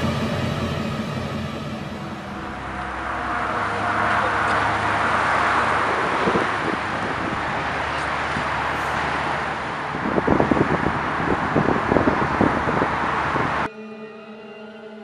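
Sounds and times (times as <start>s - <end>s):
vehicle passing: 0.0s - 13.7s.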